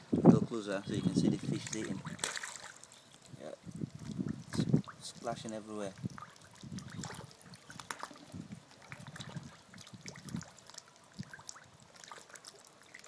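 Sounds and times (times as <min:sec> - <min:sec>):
fish splashing at water surface: 0:01.4 - 0:13.0.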